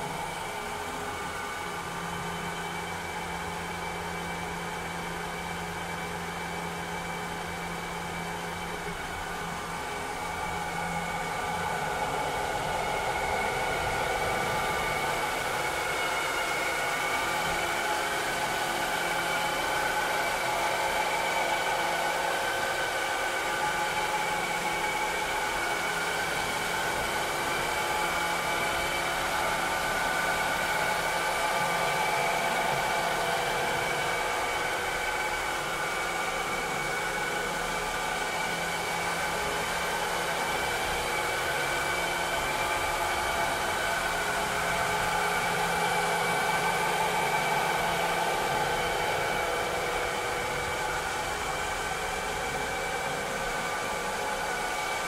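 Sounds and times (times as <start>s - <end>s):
robotic vacuum cleaner running: 7.0s - 55.0s.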